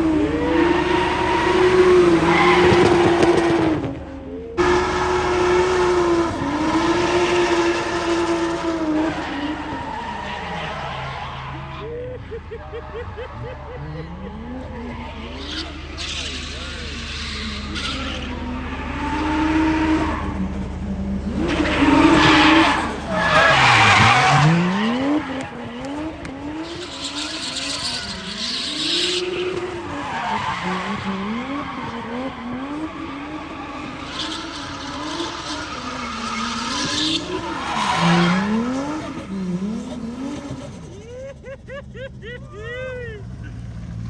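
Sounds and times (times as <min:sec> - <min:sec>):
tyres squealing: 0:00.0 - 0:03.6, 0:04.6 - 0:20.3, 0:21.4 - 0:41.4
car engine revving: 0:00.0 - 0:44.0.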